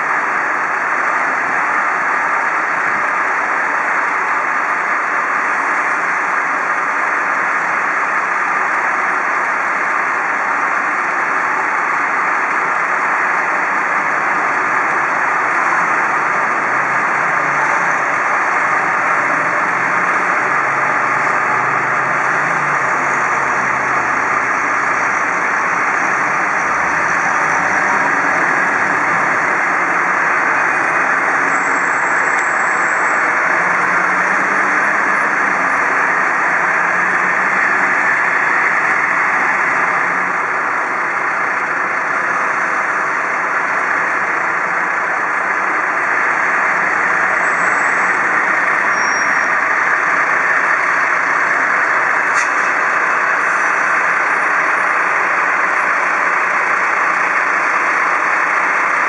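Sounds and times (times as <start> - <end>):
diesel engines idling and pulling away: 0.0 - 59.0.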